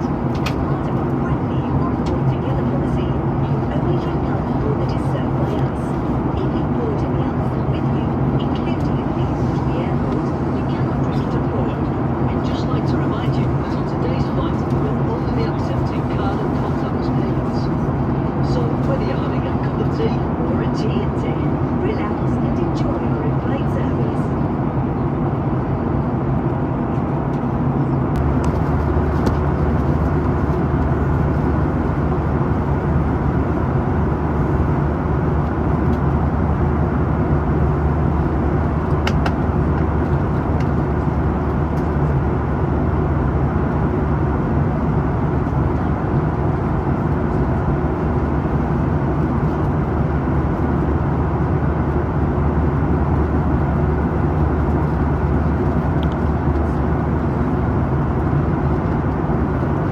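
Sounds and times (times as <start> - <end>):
jet engines droning: 0.0 - 59.9
low hum: 0.0 - 59.9.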